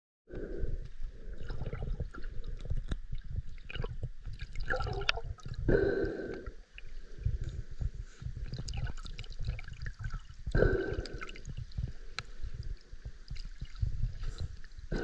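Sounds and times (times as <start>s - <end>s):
low irregular rumble: 0.3s - 15.0s.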